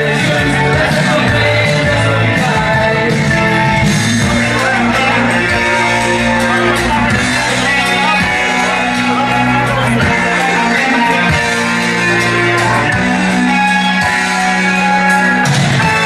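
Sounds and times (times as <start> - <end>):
song with singer and bass: 0.0 - 16.0.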